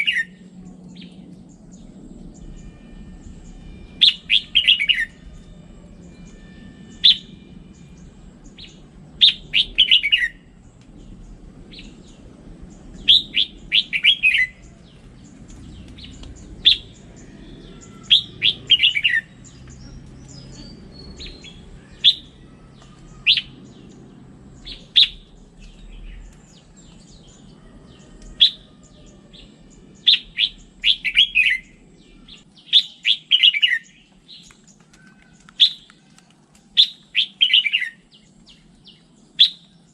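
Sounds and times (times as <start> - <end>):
bird singing whistled notes: 0.0 - 35.9, 36.8 - 39.9
faint low hum: 0.0 - 39.9.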